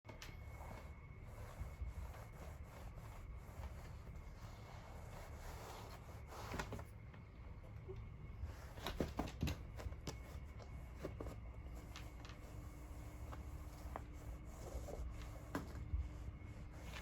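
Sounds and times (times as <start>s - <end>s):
cats scratching at carpet: 0.1s - 7.2s, 8.3s - 17.0s.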